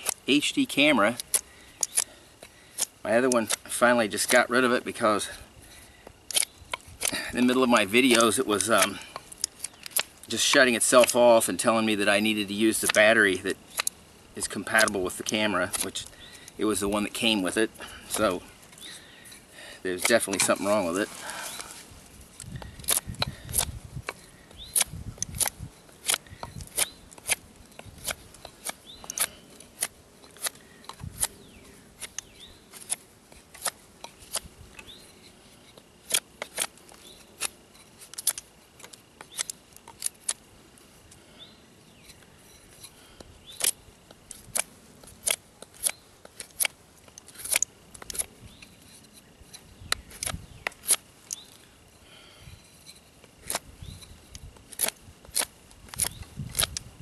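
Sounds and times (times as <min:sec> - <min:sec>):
knife carving wood: 0:00.0 - 0:41.2, 0:41.8 - 0:57.0.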